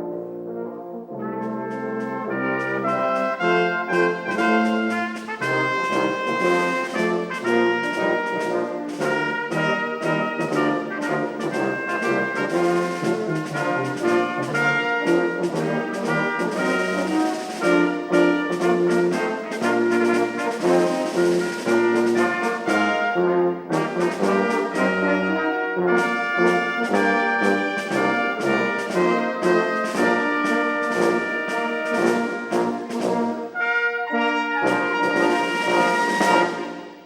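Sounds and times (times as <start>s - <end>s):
orchestra playing hymn with brass: 0.0s - 37.0s.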